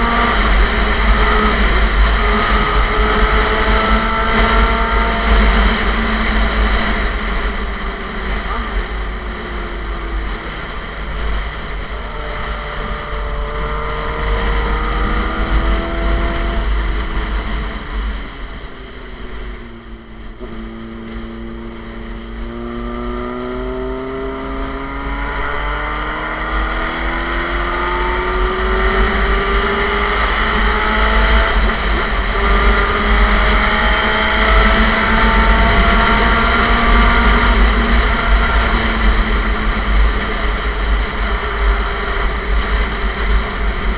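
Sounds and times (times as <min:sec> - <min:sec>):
motorcycle engine accelerating: 0:00.0 - 0:43.9
wind rumble on microphone: 0:00.0 - 0:43.9.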